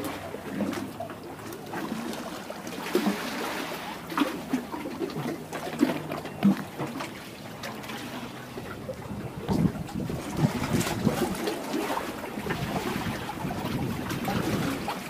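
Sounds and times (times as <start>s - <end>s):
water lapping among rocks: 0.0s - 15.0s.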